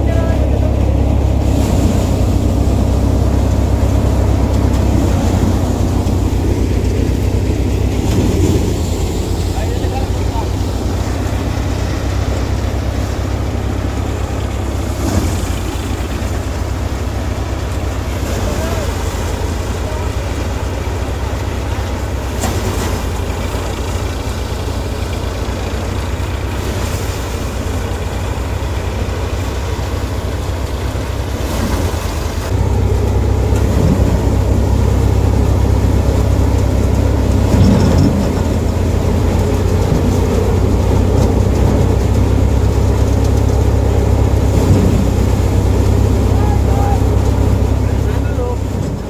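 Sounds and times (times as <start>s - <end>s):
thresher engine drone: 0.0s - 49.0s.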